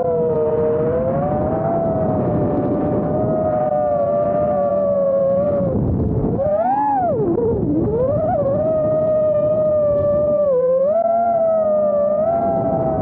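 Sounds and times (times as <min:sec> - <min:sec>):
quadcopter motors whining: 0:00.0 - 0:13.0
wind: 0:00.0 - 0:13.0.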